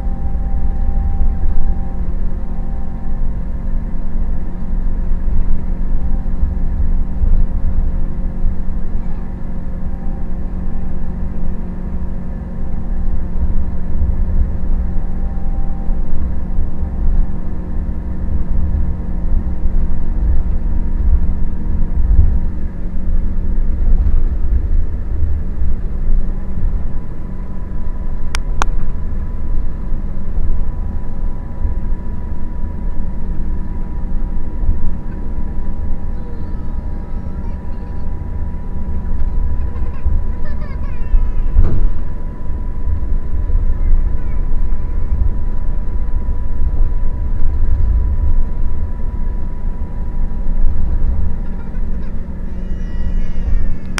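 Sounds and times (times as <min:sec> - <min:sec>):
coach engine rumbling: 0:00.0 - 0:53.9.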